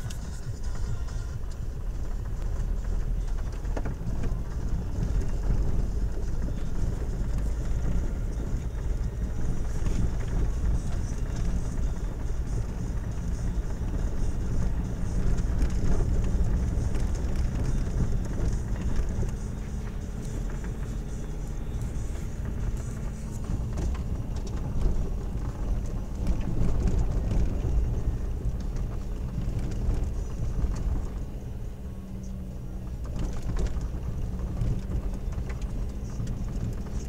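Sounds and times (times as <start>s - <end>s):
knocks and rattles from wheels: 0.0s - 31.6s, 32.8s - 37.0s
car engine and tyres rumbling: 0.0s - 37.0s.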